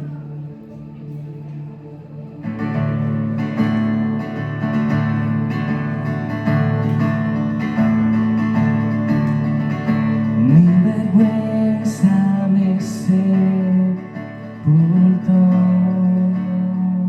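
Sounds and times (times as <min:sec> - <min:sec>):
acoustic guitar strumming: 0:02.4 - 0:17.0.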